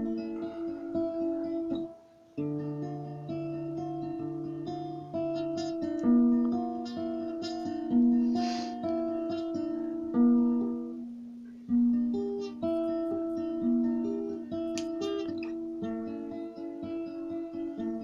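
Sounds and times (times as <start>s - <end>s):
guitar plucking chords: 0.0s - 18.0s.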